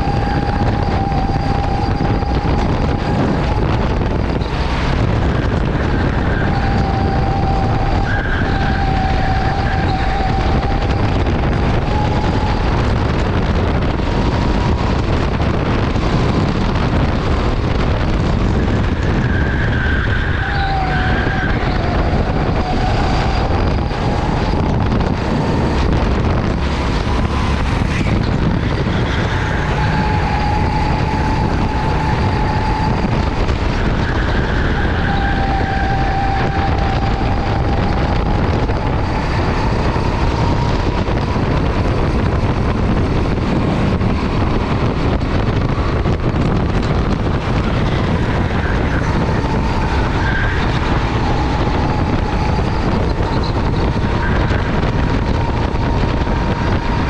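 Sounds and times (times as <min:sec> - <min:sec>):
go-kart motor whine: 0:00.0 - 0:57.0
loud rush of noise: 0:00.0 - 0:57.0.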